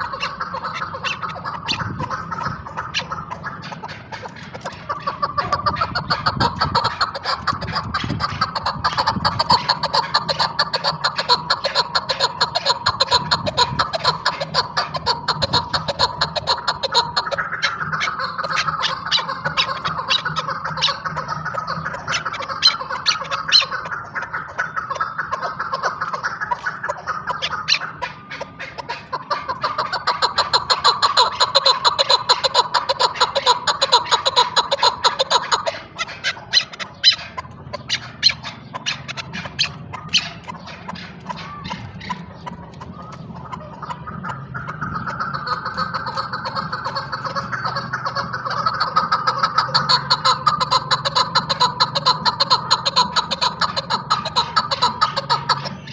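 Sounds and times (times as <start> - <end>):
partridge calling chuk notes: 0.0 - 55.9.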